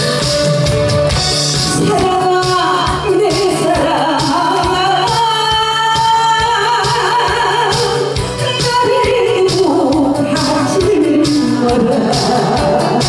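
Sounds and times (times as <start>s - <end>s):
amplified backing music with beat: 0.0s - 13.0s
woman singing through a microphone: 1.7s - 13.0s.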